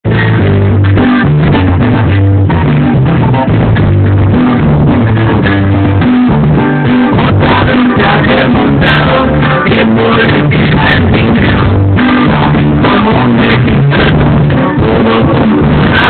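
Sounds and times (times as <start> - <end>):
guitar bass and drums music: 0.0 - 16.0.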